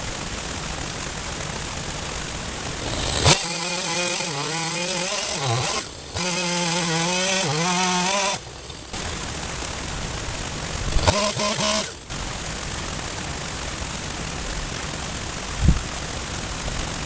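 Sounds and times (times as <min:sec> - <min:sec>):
chainsaw cutting wood: 0:00.0 - 0:17.0
steady rushing noise: 0:00.0 - 0:17.0.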